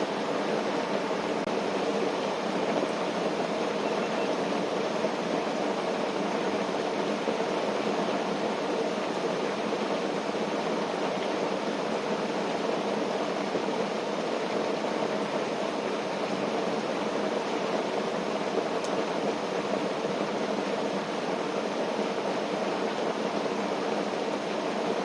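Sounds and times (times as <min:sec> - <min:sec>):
rain falling on a tent: 0:00.0 - 0:25.0.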